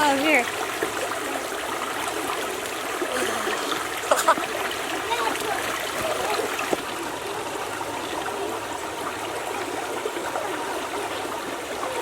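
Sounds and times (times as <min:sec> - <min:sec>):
river water flowing over rocks: 0:00.0 - 0:12.0.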